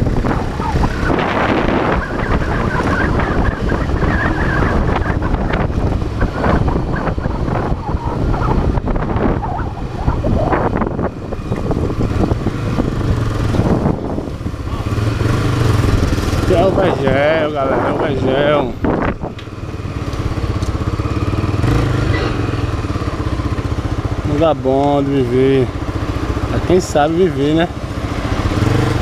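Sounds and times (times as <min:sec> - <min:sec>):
wind noise on microphone: 0:00.0 - 0:24.6
motorcycle engine riding: 0:00.0 - 0:29.0.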